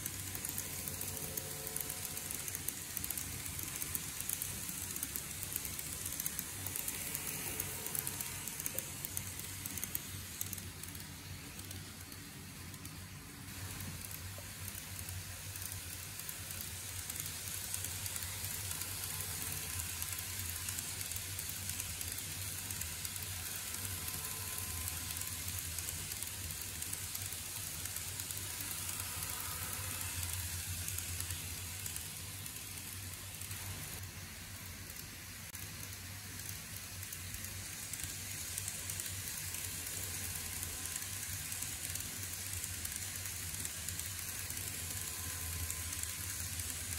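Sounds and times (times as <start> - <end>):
model train wheels rattling: 0.0 - 46.9.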